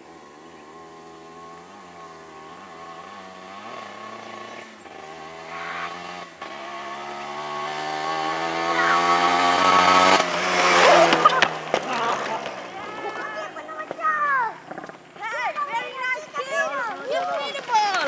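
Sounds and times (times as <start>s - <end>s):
small motorcycle engine revving: 0.0s - 15.2s.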